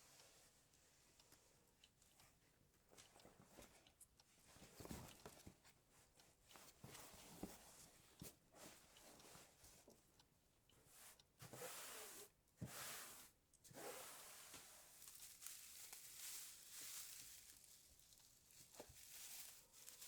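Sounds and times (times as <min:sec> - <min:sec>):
faint rustling and handling: 0:00.0 - 0:20.0.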